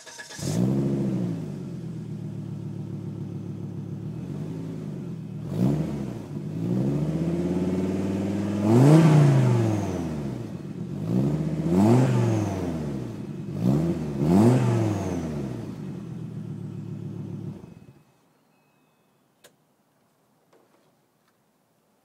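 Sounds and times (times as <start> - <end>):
car engine revving: 0.0 - 17.7.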